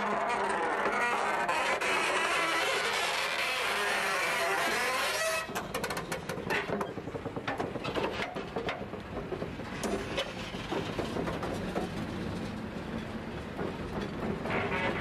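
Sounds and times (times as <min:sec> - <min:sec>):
rumble on rails: 0:00.0 - 0:15.0
wheels and running gear clanking: 0:02.5 - 0:15.0.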